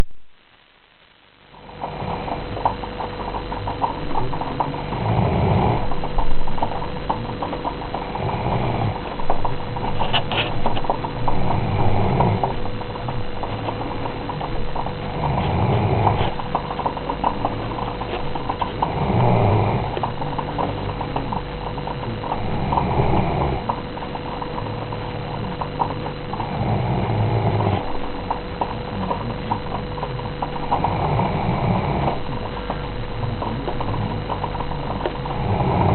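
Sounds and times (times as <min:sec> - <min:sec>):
faint steady hum: 0:00.0 - 0:35.9
dog snoring: 0:01.5 - 0:35.9.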